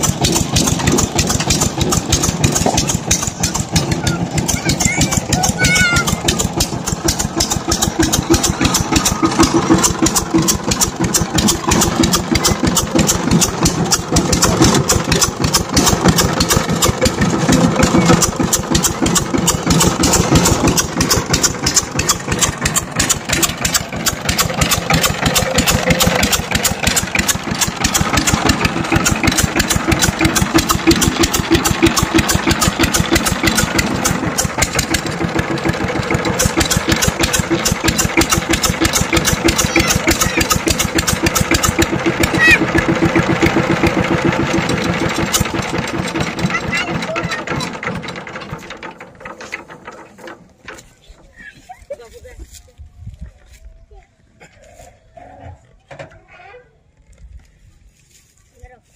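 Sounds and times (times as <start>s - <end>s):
diesel engine running: 0.0s - 52.6s.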